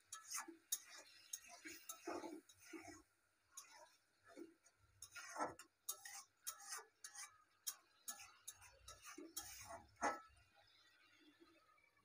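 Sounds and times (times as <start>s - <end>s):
spatula scraping and tapping a wok: 0.0s - 10.5s.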